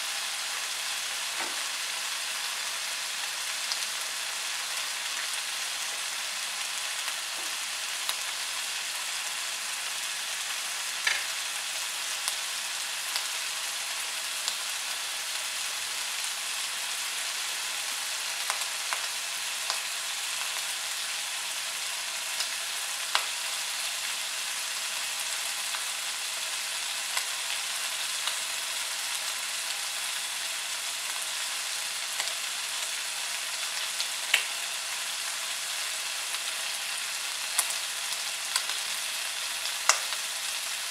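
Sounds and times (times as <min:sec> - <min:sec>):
bacon sizzling in a frying pan: 0:00.0 - 0:40.9.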